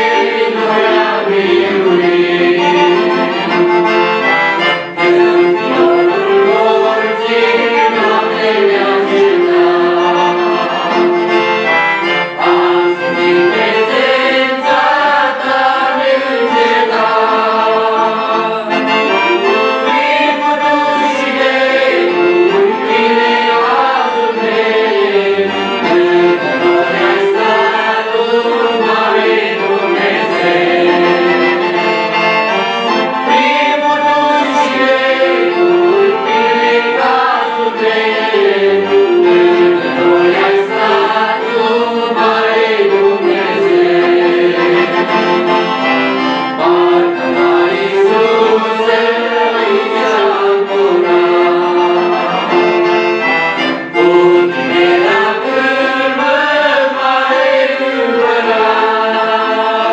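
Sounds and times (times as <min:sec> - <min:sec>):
group of young people singing a hymn: 0:00.0 - 0:32.2, 0:33.2 - 0:45.6, 0:46.5 - 0:59.9
piano accordion: 0:00.0 - 0:59.9.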